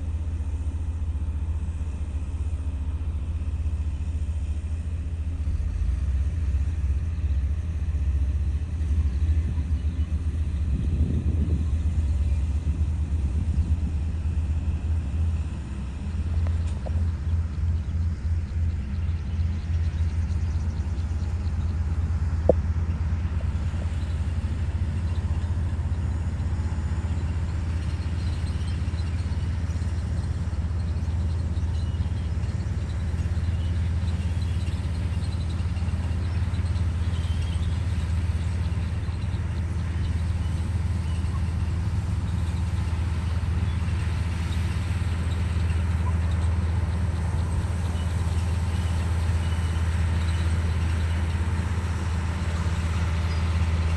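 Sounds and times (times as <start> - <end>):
bulldozer diesel engine drone: 0.0 - 53.9.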